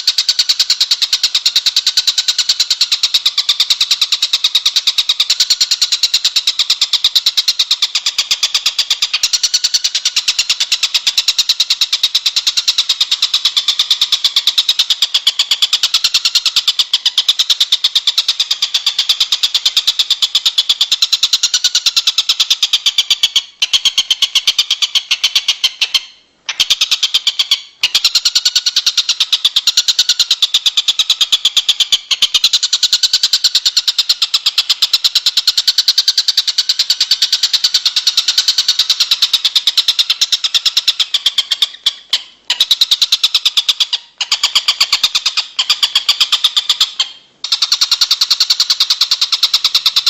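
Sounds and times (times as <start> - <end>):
high rapid bird trill: 0.0 - 50.0.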